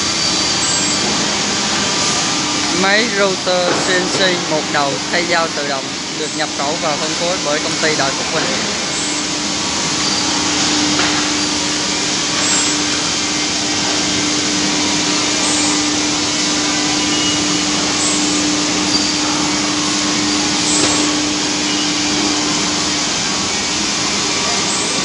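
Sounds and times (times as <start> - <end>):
router cutting wood: 0.0 - 21.8
steady humming tone: 0.0 - 25.0.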